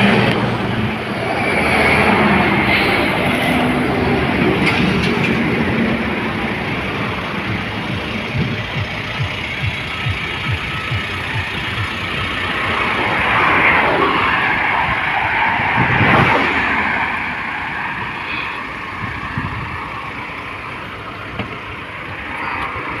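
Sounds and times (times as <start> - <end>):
motor vehicle rushing: 0.0 - 23.0.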